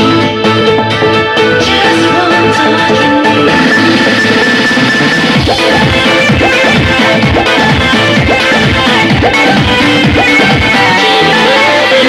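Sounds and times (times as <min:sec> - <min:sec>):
dance music over loudspeakers: 0:00.0 - 0:12.0.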